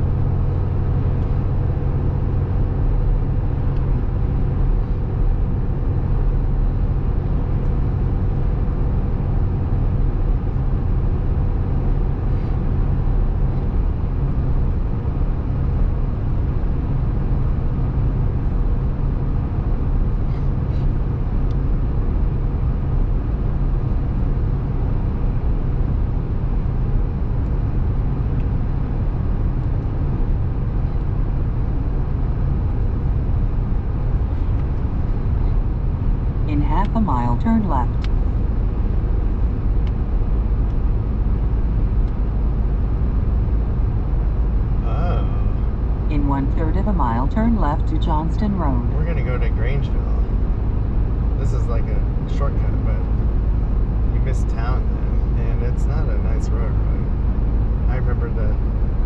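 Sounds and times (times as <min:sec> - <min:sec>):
car engine and tyre drone: 0:00.0 - 0:59.0.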